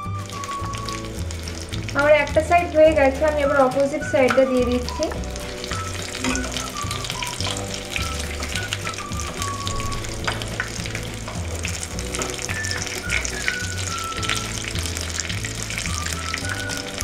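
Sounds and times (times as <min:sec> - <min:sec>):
background music with bass line: 0:00.0 - 0:17.0
fish sizzling in hot oil: 0:00.0 - 0:17.0.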